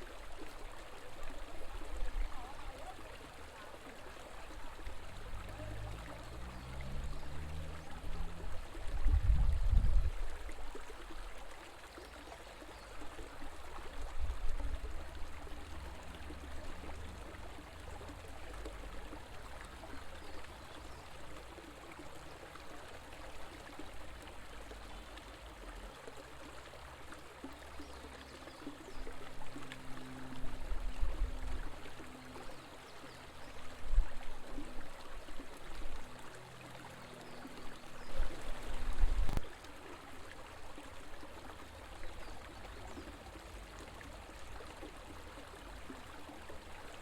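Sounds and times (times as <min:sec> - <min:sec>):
river water flowing: 0:00.0 - 0:47.0.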